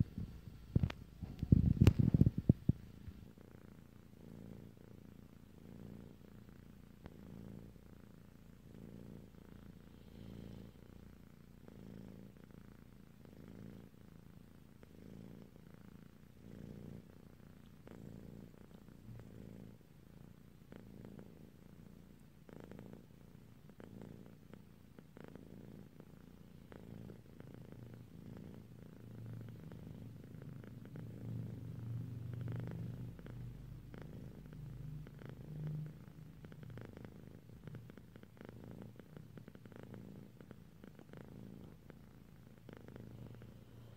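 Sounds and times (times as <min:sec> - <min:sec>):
kitten purring: 0:00.0 - 0:43.9.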